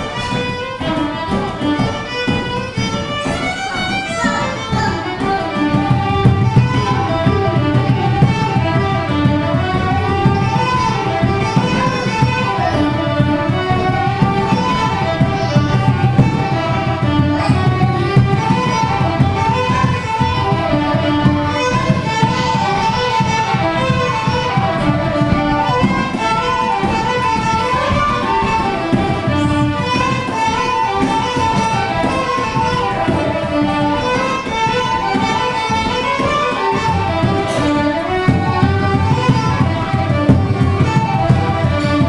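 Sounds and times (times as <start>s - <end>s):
fiddle playing a jig: 0.0s - 42.0s.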